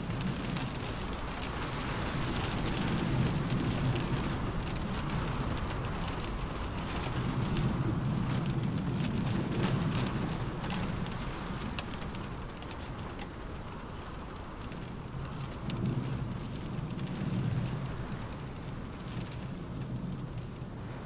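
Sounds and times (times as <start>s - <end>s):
rain on a car roof: 0.0s - 21.0s
wind gusts: 0.0s - 21.0s.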